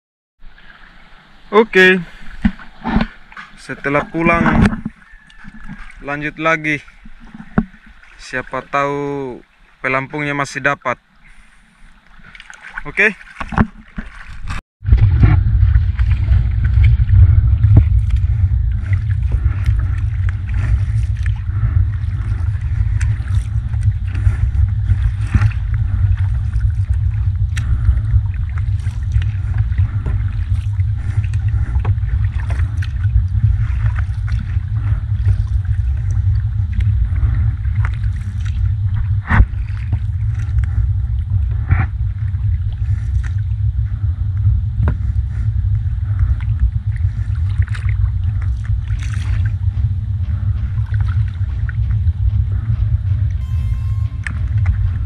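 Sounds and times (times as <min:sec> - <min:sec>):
wind rumble on microphone: 0:00.4 - 0:08.3, 0:13.4 - 0:55.0
water lapping against canoe: 0:00.4 - 0:53.4.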